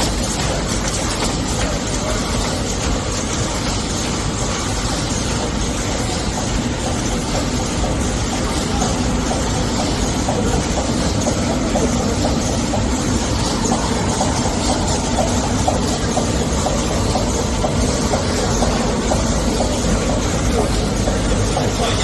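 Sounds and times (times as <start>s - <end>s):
machine mechanical whir: 0.0s - 22.0s.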